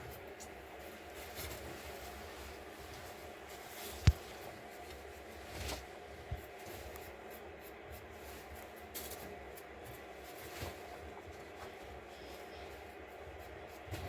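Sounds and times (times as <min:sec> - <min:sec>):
faint rustling and rubbing: 0:00.0 - 0:14.0.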